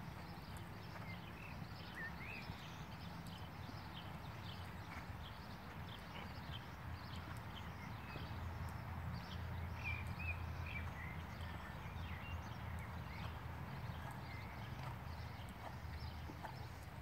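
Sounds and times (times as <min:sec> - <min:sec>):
horse hoofbeats on sand: 0:00.0 - 0:17.0
birds chirping: 0:00.1 - 0:17.0.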